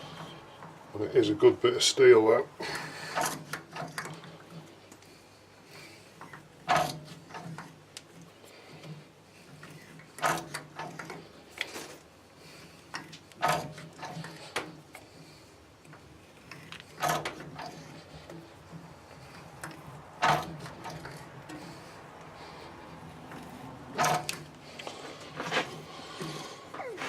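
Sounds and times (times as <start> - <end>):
sharp metallic clicks and creaks: 3.1 - 5.1, 6.2 - 12.1, 12.9 - 27.0.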